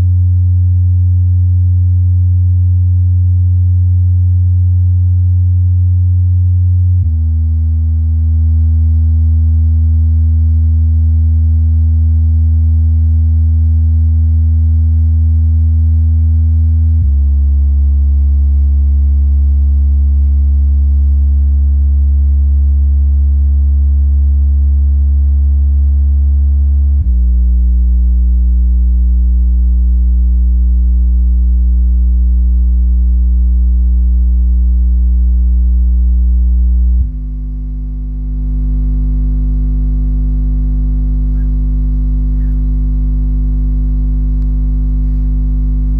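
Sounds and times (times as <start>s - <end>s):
low bass test tones: 0.0s - 45.9s.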